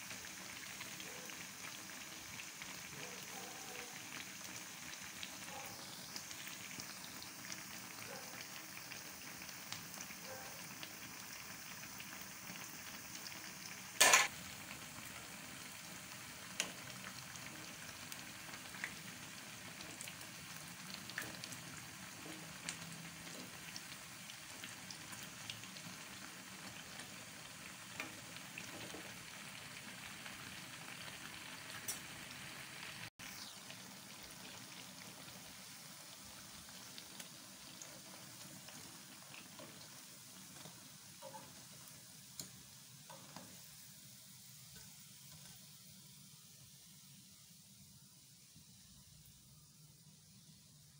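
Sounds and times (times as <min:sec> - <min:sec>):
fritters sizzling in hot oil: 0:00.0 - 0:50.9.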